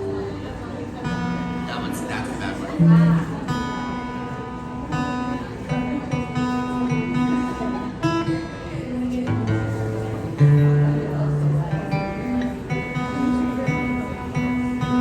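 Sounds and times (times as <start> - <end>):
acoustic guitar strings plucked: 0.0 - 15.0.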